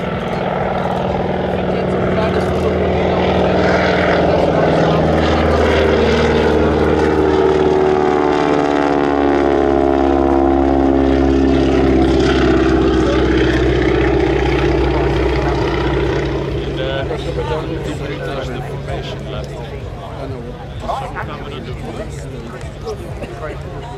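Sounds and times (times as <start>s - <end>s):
biplane radial engine passing: 0.0s - 23.9s.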